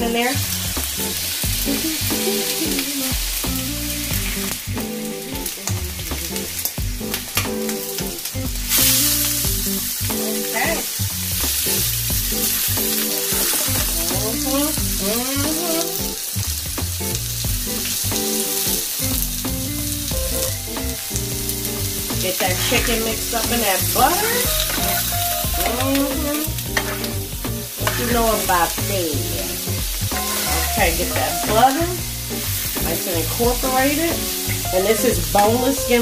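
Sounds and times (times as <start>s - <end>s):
chicken sizzling in butter: 0.0s - 36.0s.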